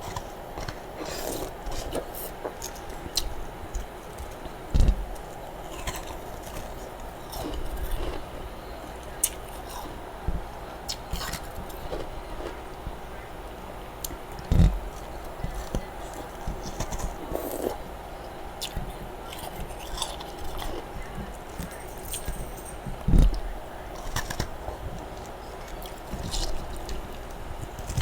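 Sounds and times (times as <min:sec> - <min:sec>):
frost crunching when chewed: 0:00.0 - 0:28.0.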